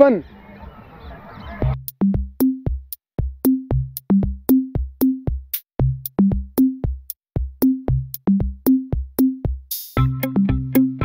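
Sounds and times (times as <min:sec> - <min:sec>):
electronic music drum-machine beat: 0:01.6 - 0:11.0.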